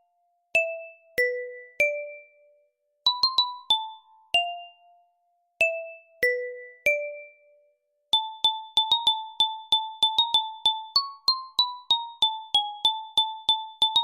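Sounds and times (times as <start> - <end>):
electronic bell-like melody: 0.0 - 14.0.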